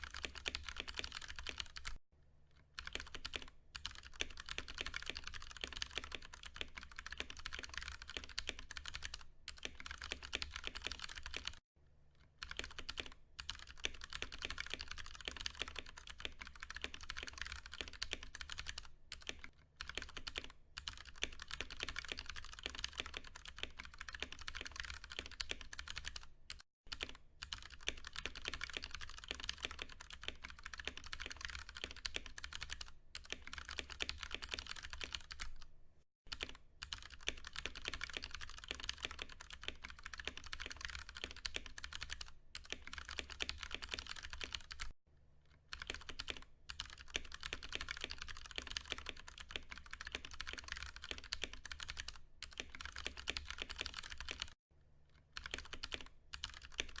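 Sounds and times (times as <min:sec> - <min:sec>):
mechanical keyboard typing: 0:00.0 - 0:02.0, 0:02.8 - 0:11.6, 0:12.4 - 0:35.7, 0:36.3 - 0:45.0, 0:45.7 - 0:54.6, 0:55.4 - 0:57.0.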